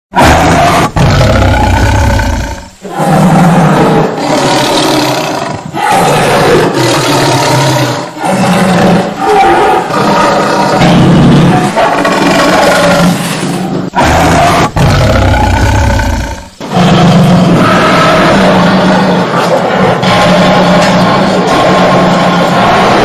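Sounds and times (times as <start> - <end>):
tiger roaring: 0.2 - 23.0.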